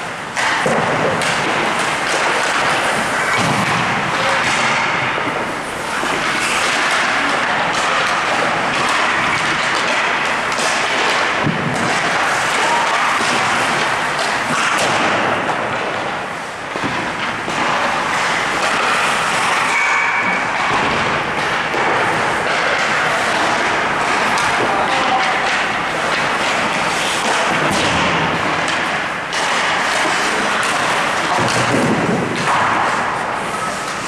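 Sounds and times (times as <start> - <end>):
pucks struck by sticks: 0.0 - 34.0
skate blades scraping ice: 0.4 - 34.0.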